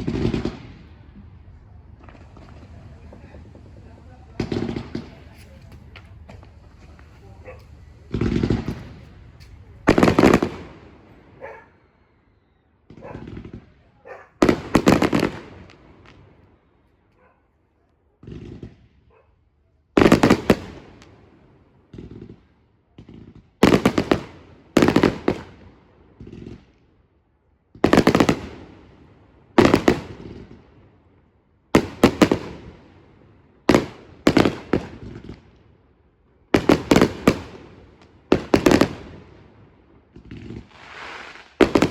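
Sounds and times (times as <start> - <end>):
firework bursts with echo: 0.0 - 16.4, 20.0 - 26.7, 27.8 - 30.7, 31.8 - 35.6, 36.5 - 41.9.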